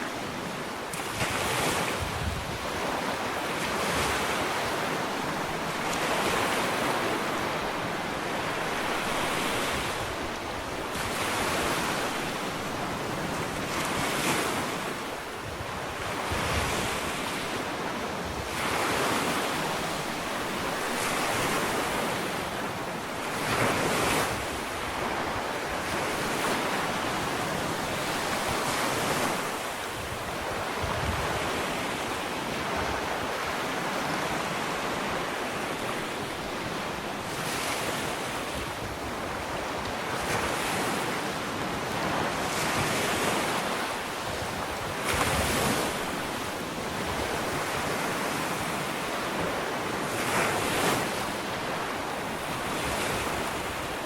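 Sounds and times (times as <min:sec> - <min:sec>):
ocean waves washing on beach: 0:00.0 - 0:54.0
wind on microphone: 0:00.1 - 0:54.0.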